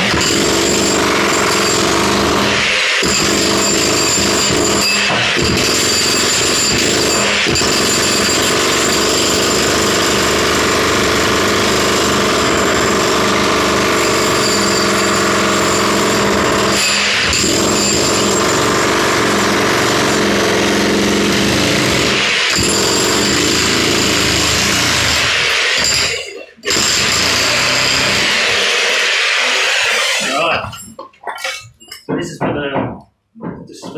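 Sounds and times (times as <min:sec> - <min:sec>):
jackhammer hammering: 0:00.0 - 0:31.0.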